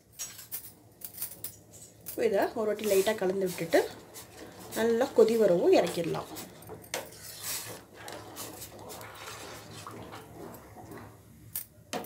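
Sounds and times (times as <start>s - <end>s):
liquid swirling in a pot: 1.6s - 11.5s.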